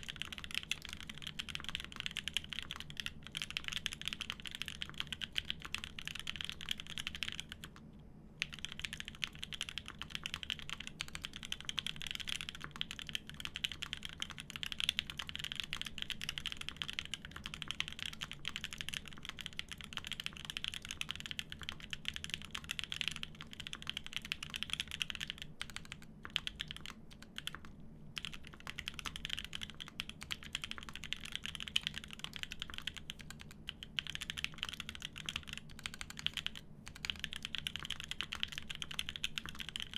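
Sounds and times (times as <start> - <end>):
fast typing on mechanical keyboard: 0.0 - 7.8, 8.4 - 39.9.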